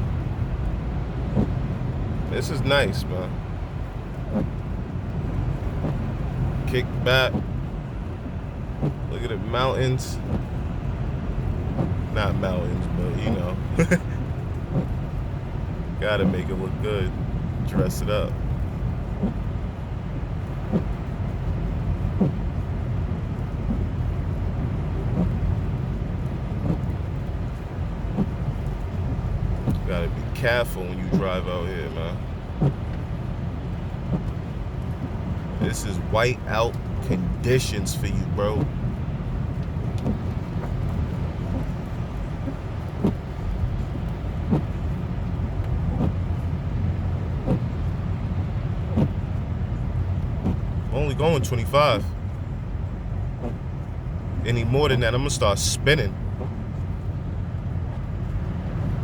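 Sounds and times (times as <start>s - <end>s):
road and engine rumble: 0.0s - 59.0s
windshield wipers sweeping: 0.0s - 59.0s.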